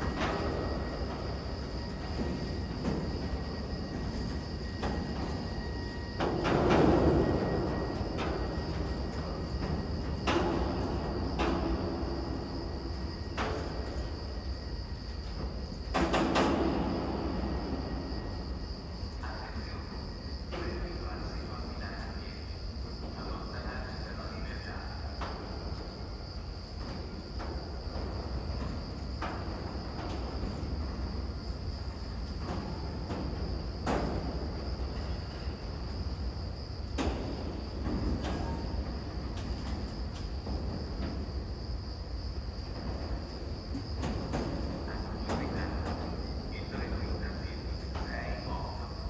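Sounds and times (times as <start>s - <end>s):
constant high-pitched trill: 0.0s - 49.0s.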